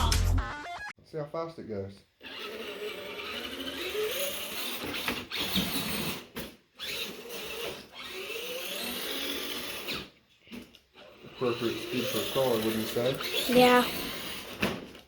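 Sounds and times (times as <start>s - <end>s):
toy car electric motor whining: 2.2s - 15.0s.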